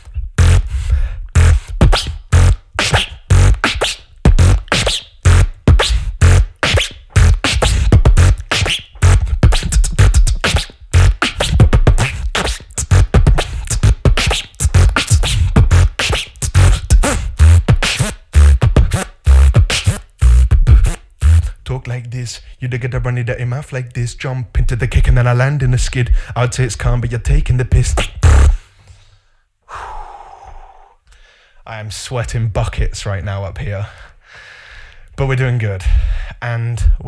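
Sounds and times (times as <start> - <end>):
beatboxing into a microphone: 0.0 - 22.9, 23.8 - 28.7, 35.0 - 37.0.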